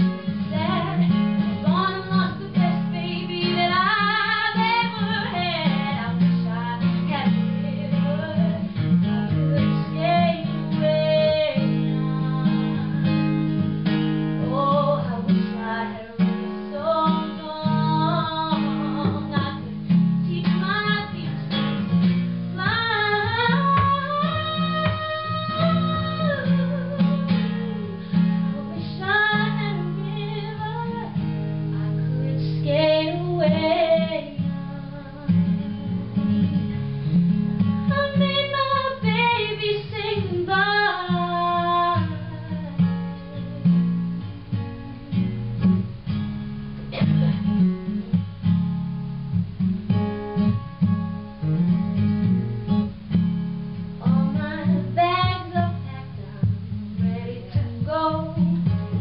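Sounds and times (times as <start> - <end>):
woman singing: 0.0 - 13.2, 14.3 - 36.9, 37.6 - 45.7, 54.0 - 59.0
acoustic guitar: 0.0 - 59.0.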